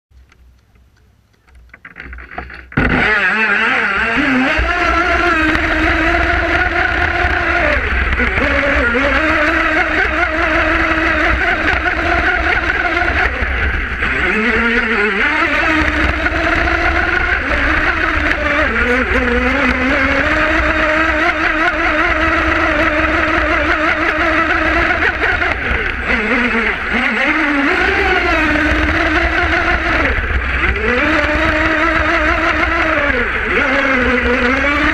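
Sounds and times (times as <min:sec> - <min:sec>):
electric motor whine: 0:01.9 - 0:34.9
low rumble: 0:03.9 - 0:34.9.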